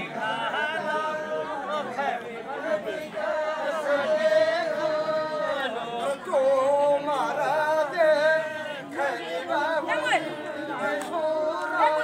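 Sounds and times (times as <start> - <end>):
unaccompanied voices singing folk song: 0.0 - 12.0.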